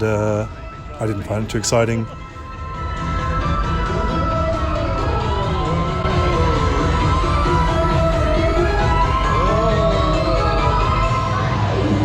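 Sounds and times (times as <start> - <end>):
music playing: 0.0 - 12.0.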